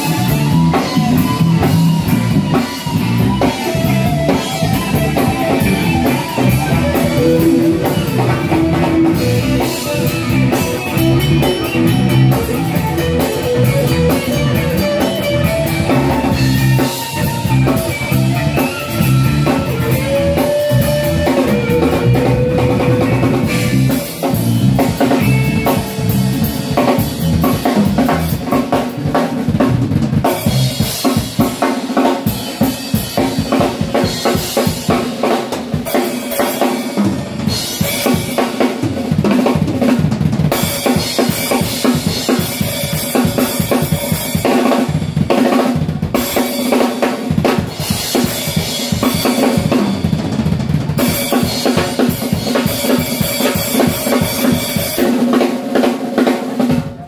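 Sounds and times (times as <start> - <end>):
drum kit with rimshots: 0.0 - 57.0
electric guitar lead lines: 0.0 - 57.0
rock band playing: 0.0 - 57.0.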